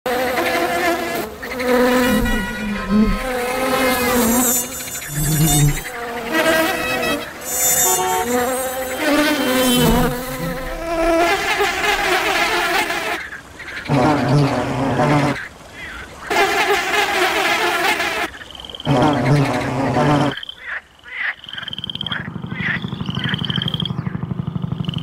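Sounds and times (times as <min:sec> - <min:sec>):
flying insects buzzing: 0:00.1 - 0:25.0.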